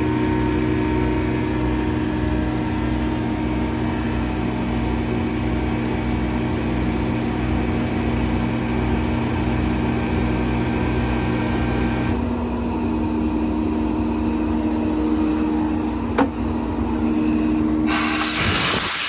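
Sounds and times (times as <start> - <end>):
engine humming steadily: 0.0 - 17.9.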